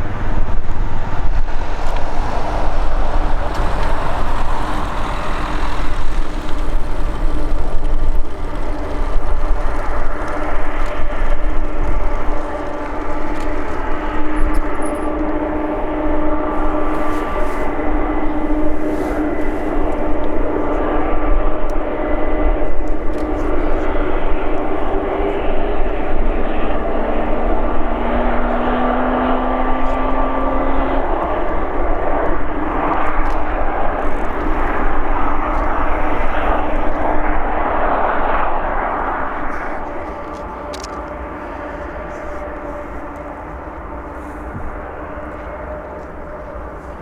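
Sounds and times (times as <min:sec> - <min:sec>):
jet engines whining: 0:00.0 - 0:47.0.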